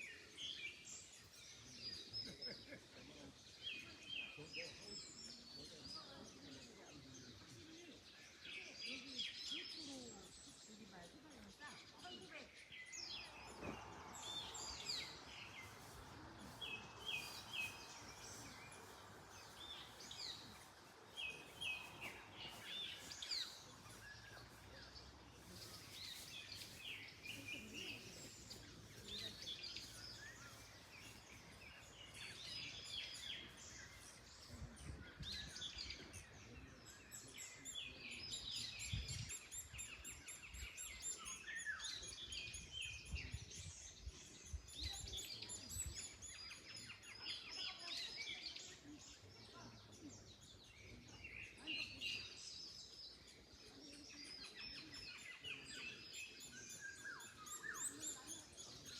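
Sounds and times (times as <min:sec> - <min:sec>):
birds chirping and singing: 0:00.0 - 0:58.9.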